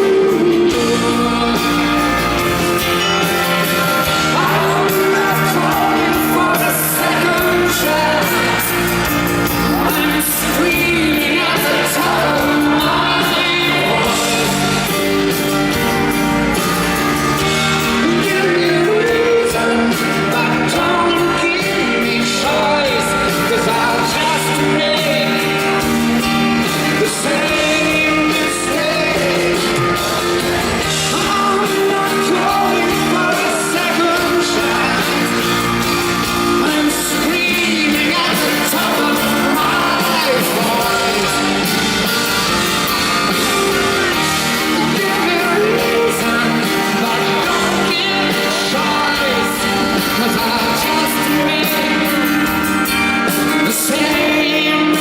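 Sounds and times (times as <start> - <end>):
live pop-rock ballad by band: 0.0 - 55.0
person singing: 0.0 - 55.0.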